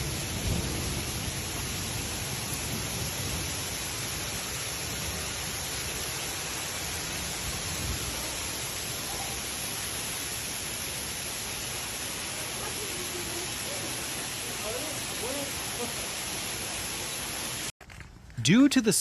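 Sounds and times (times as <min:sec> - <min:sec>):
heavy rain downpour hiss: 0:00.0 - 0:17.7.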